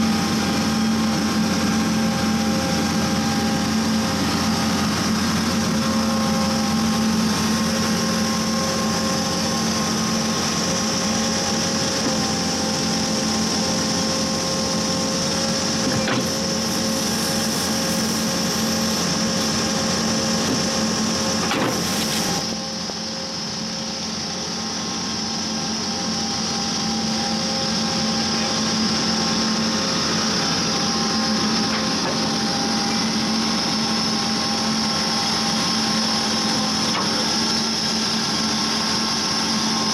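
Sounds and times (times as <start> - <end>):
drilling rig engine running: 0.0 - 39.9
high whine: 0.0 - 39.9.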